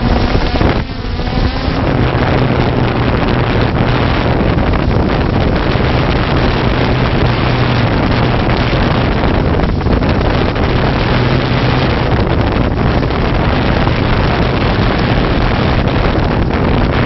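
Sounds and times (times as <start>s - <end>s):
drone propellers buzzing: 0.0s - 17.0s
wind noise on microphone: 0.0s - 17.0s.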